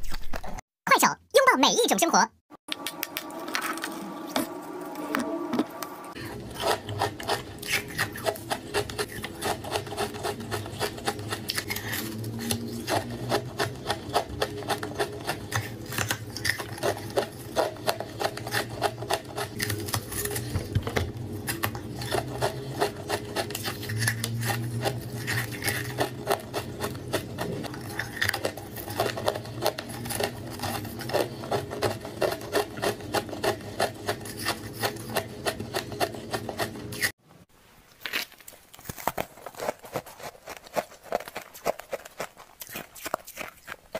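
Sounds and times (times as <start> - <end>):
crunching frozen ice: 6.2 - 37.1, 37.9 - 43.9.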